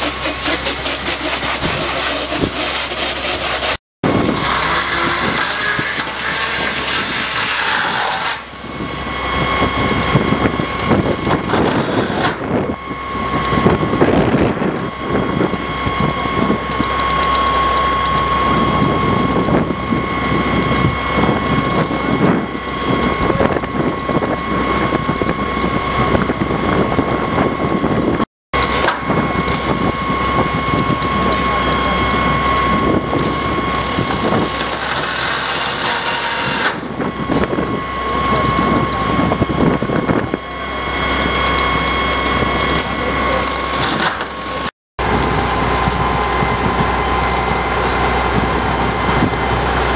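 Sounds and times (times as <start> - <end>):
fire truck engine and pump: 0.0 - 49.9.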